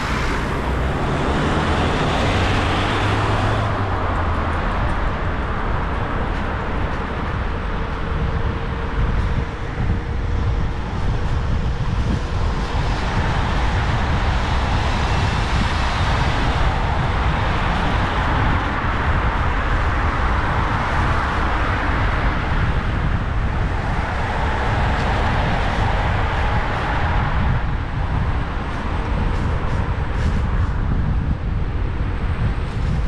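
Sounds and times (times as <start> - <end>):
road and traffic noise: 0.0 - 33.0
wind rumbling on microphone: 0.0 - 33.0.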